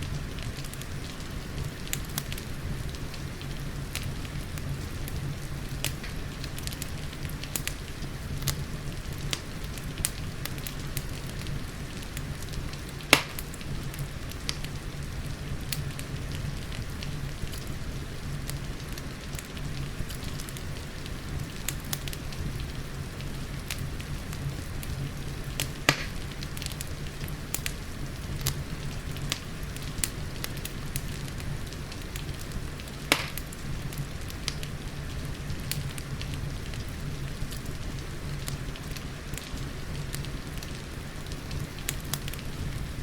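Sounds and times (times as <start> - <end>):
rain hiss: 0.0 - 43.0
wood fire crackling: 0.0 - 43.0.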